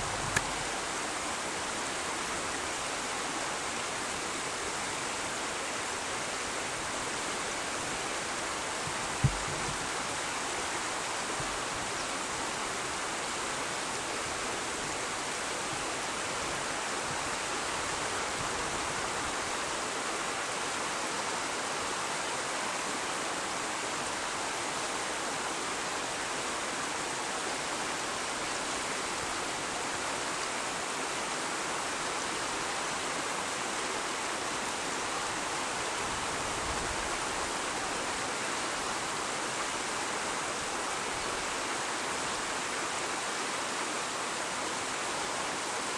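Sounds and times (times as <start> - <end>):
river water running: 0.0 - 45.9.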